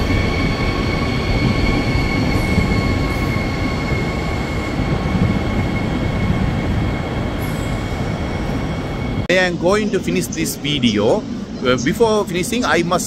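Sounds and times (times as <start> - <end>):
high train whine: 0.0 - 13.0
train wheels rumbling: 0.0 - 13.0.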